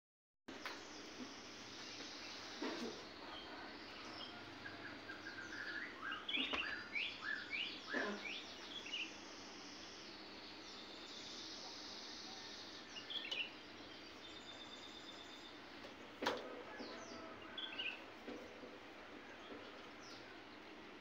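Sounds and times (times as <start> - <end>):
small birds chirping: 0.5 - 21.0
steady background hiss: 0.5 - 21.0.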